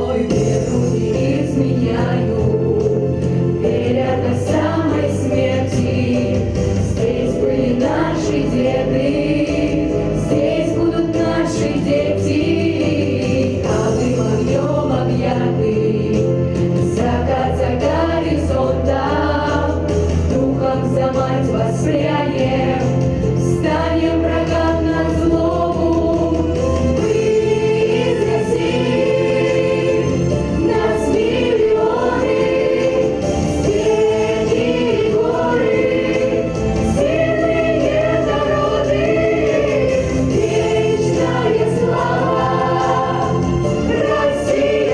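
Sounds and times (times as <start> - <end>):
children's choir singing: 0.0 - 44.9.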